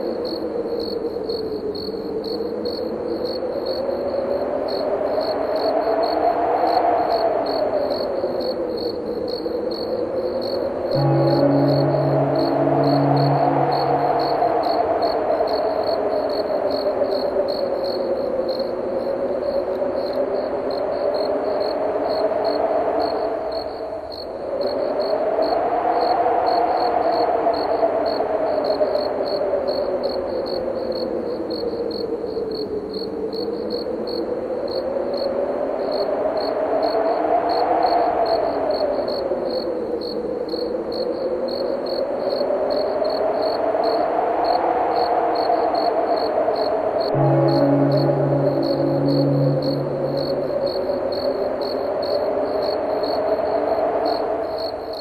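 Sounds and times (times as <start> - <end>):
crickets chirping: 0.0 - 55.0
howling wind: 0.0 - 55.0.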